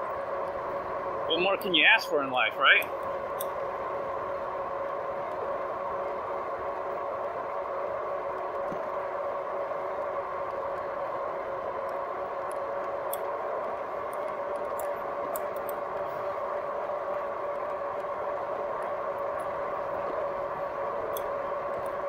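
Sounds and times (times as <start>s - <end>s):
electric bike motor hum and whine: 0.0s - 22.0s.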